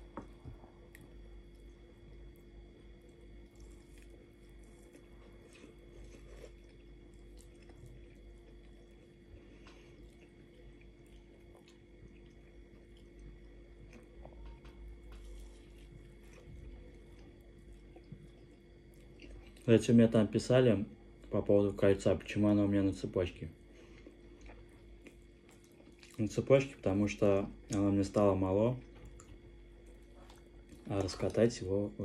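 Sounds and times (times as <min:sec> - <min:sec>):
quiet chewing: 0:00.0 - 0:19.7, 0:23.6 - 0:26.6, 0:27.4 - 0:31.7
faint steady hum: 0:00.0 - 0:32.0.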